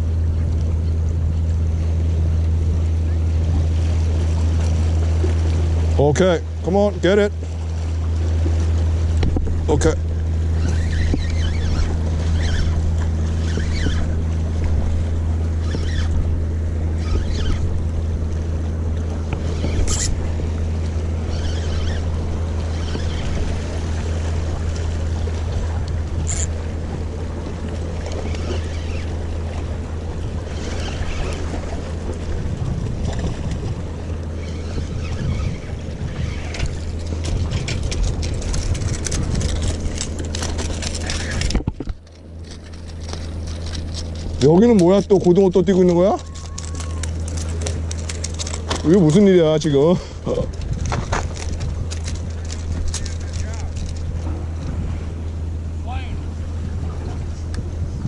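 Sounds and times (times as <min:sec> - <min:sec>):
sea waves: 0:00.0 - 0:58.0
steady low drone: 0:00.0 - 0:58.0
wind: 0:00.0 - 0:58.0.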